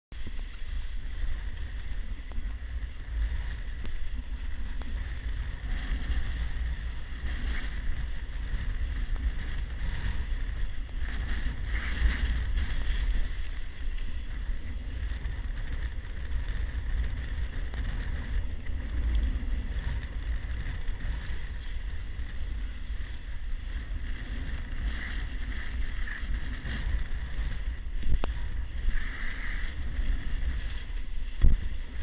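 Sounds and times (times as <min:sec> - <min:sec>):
wind buffeting microphone: 0:00.1 - 0:32.0
surf rushing: 0:00.2 - 0:32.0.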